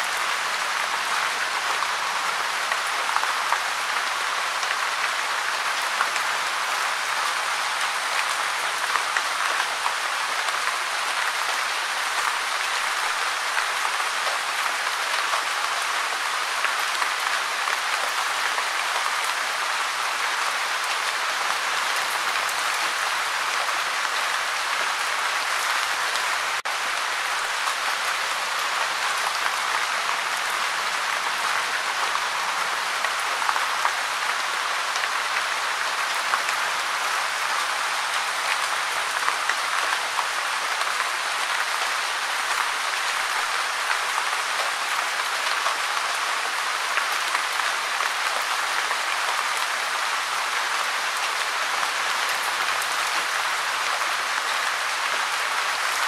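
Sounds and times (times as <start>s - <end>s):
gentle rain patter: 0.0s - 56.0s.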